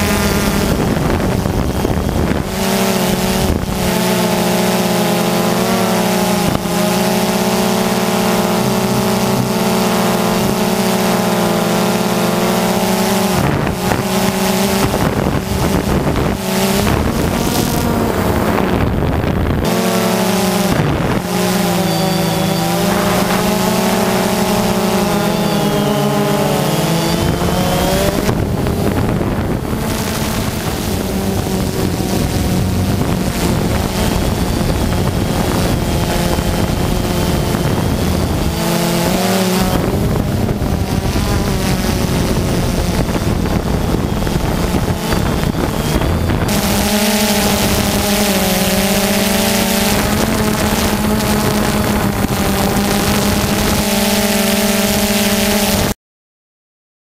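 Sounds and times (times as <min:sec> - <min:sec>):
wind on microphone: 0:00.0 - 0:55.9
drone propellers buzzing: 0:00.0 - 0:56.0.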